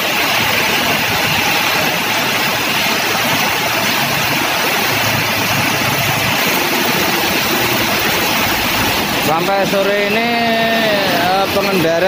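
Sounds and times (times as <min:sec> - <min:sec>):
heavy rain hissing: 0:00.0 - 0:12.0
water on flooded road: 0:00.0 - 0:12.0.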